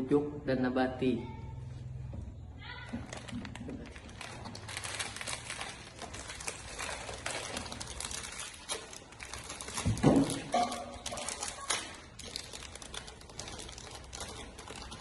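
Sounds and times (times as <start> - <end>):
plastic packaging crinkling: 2.7 - 15.0.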